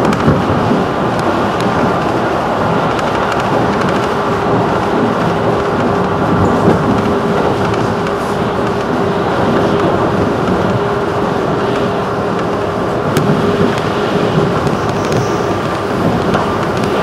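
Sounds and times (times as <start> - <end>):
constant hum: 0.0 - 17.0
train wheels rumbling on rail: 0.0 - 17.0.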